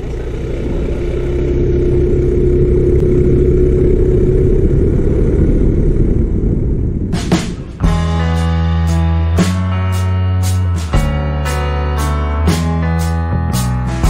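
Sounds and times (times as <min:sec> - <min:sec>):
motorcycle engine rumbling: 0:00.0 - 0:12.9.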